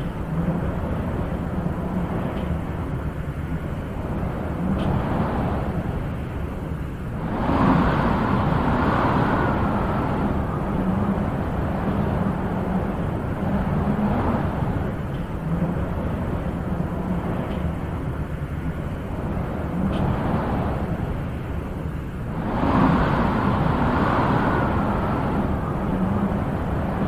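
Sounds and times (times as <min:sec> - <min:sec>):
wind blowing in gusts: 0:00.0 - 0:27.0.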